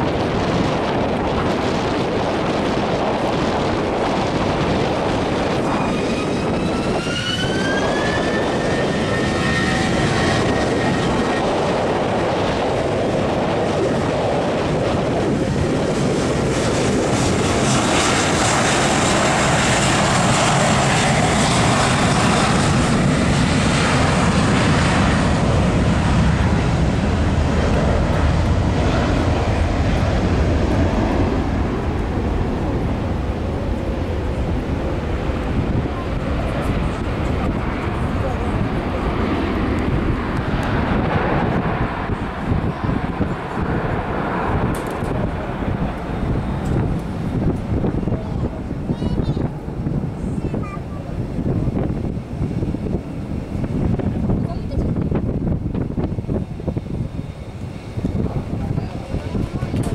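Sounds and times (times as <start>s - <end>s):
jet engines spooling up: 0.4s - 59.9s.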